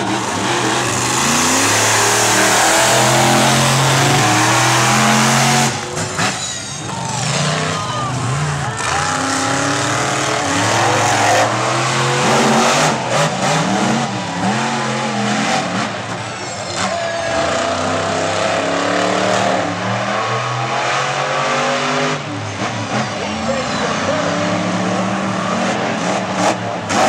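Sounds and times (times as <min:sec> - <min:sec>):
monster truck engines revving: 0:00.0 - 0:27.0.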